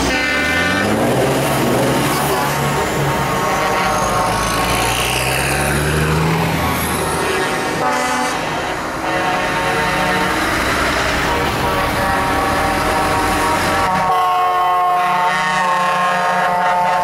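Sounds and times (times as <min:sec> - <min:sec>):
truck engines running: 0:00.0 - 0:17.0
truck horns: 0:00.0 - 0:17.0.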